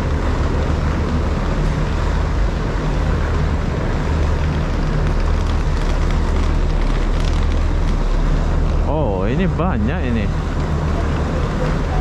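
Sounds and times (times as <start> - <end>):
broad rush of noise: 0.0 - 12.0
ferry engines humming: 0.0 - 12.0.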